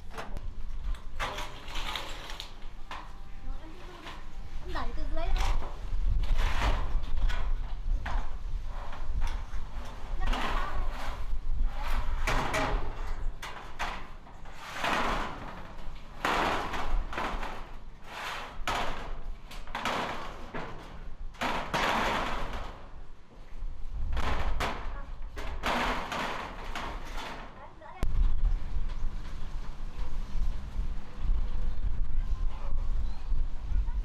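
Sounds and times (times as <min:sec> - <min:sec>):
metal roofing sheet scraping: 0:00.0 - 0:33.1.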